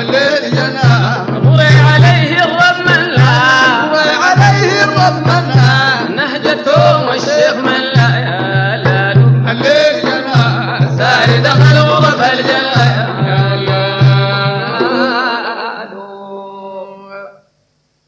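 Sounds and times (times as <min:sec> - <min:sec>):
frame drum beating: 0:00.0 - 0:15.3
male voices singing: 0:00.0 - 0:17.4.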